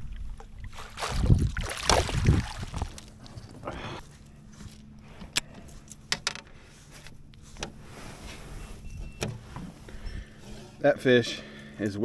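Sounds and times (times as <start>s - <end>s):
faint steady hum: 1.5s - 12.0s.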